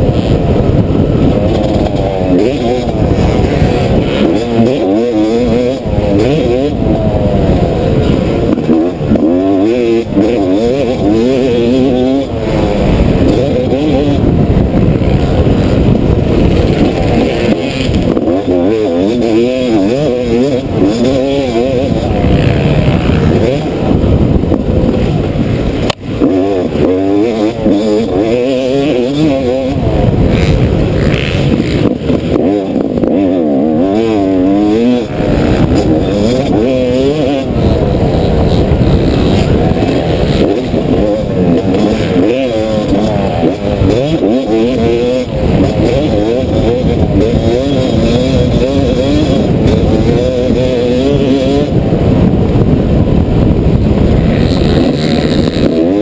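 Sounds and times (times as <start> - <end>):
motocross bike engine revving: 0.0 - 56.0
wind noise on microphone: 0.0 - 56.0.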